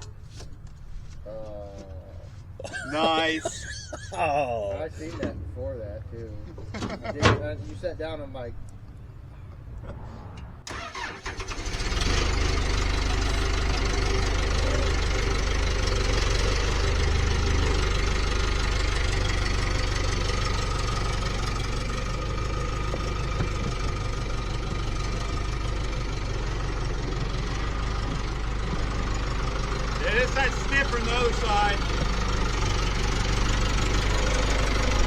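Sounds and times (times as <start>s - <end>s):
diesel engine cranking and running: 4.8s - 35.0s.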